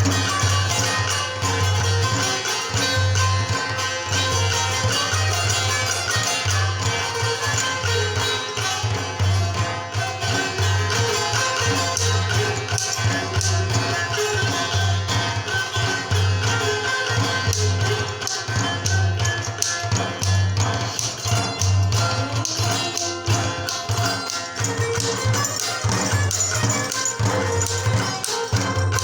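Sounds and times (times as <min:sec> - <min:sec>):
hand-drum rhythm: 0:00.0 - 0:29.0
plucked sitar melody: 0:00.0 - 0:29.0.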